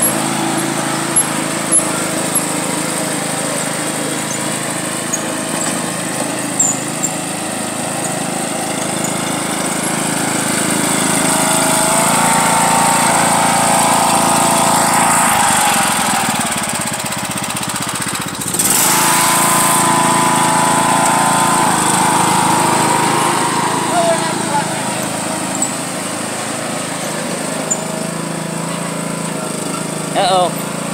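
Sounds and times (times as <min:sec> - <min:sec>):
riding lawn mower engine under load: 0:00.0 - 0:30.9.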